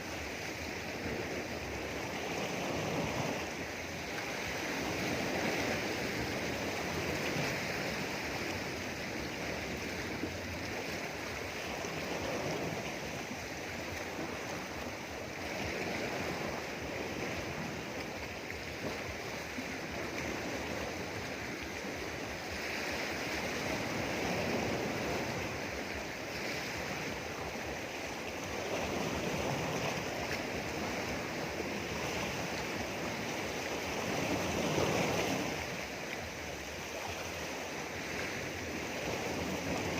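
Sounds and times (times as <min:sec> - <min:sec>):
sea waves washing over rocks: 0:00.0 - 0:39.9.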